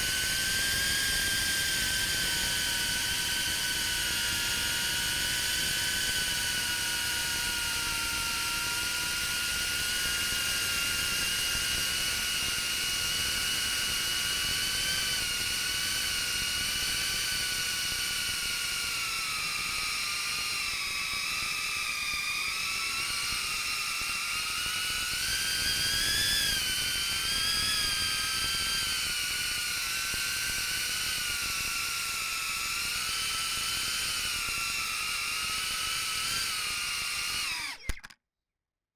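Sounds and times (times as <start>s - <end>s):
drone motors whining: 0.0s - 38.2s.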